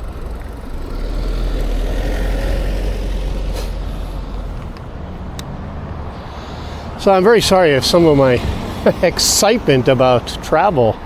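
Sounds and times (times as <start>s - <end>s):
large vehicle passing: 0.0s - 11.0s.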